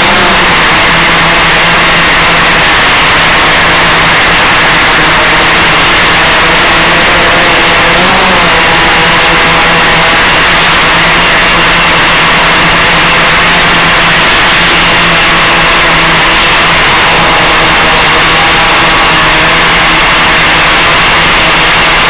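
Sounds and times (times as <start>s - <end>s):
quadcopter motors buzzing: 0.0s - 22.0s.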